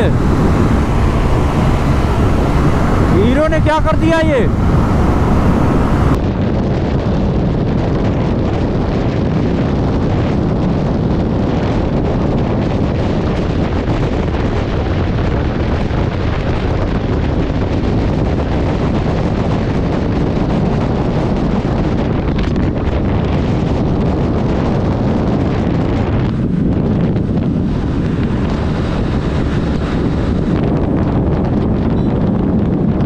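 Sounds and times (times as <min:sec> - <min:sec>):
wind noise on microphone: 0:00.0 - 0:33.0.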